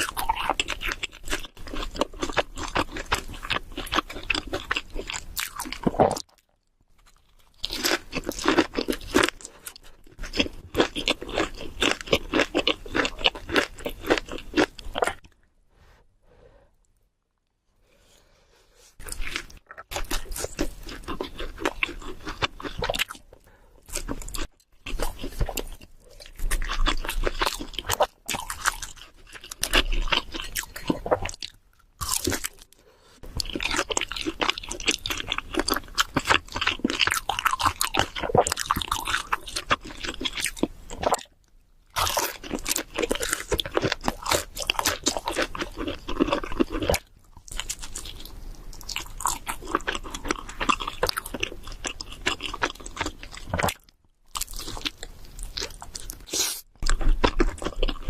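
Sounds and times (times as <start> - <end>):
chewing and crunching pizza: 0.0 - 15.5, 19.0 - 58.0.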